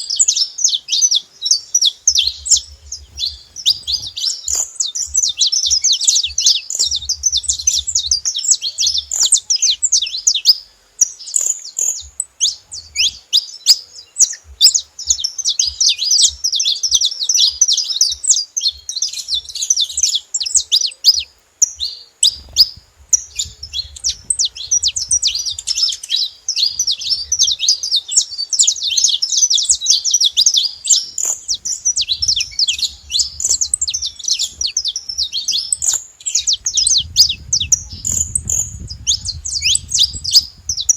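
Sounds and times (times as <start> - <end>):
finch singing high chirps: 0.0 - 40.9.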